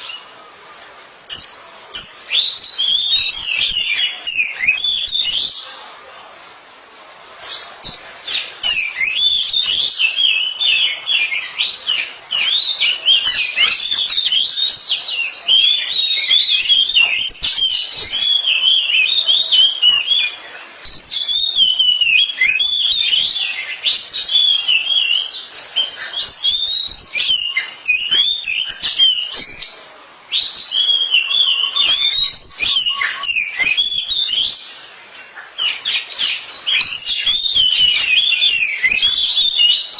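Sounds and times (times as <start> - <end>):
birds singing whistles and chirps: 0.0 - 0.4, 1.3 - 5.9, 7.4 - 39.9.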